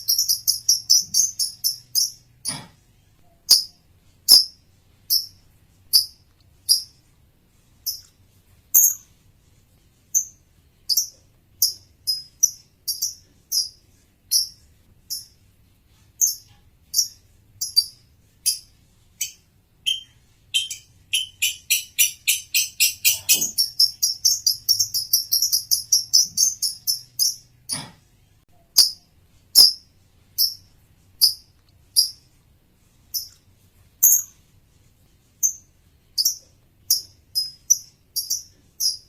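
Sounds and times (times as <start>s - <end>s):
bird chirping: 0.0s - 9.2s, 10.1s - 27.8s, 28.5s - 32.3s, 33.1s - 33.4s, 34.0s - 34.4s, 35.4s - 39.0s.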